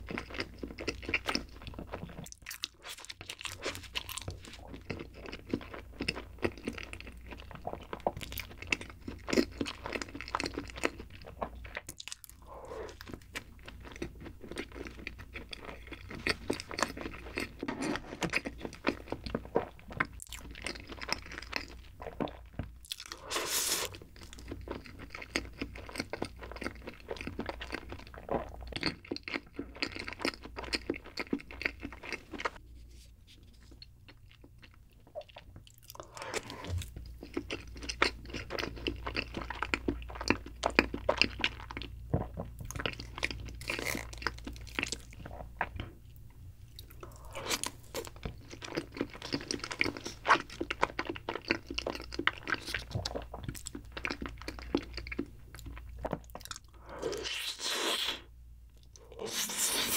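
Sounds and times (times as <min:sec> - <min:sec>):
person chewing bread: 0:00.0 - 0:59.9.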